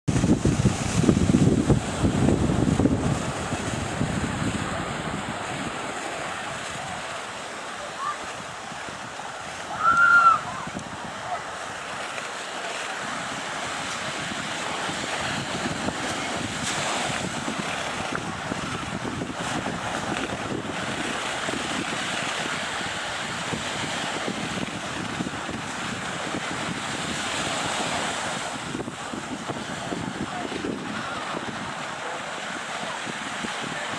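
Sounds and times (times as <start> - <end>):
wind on microphone: 0.0 - 33.9.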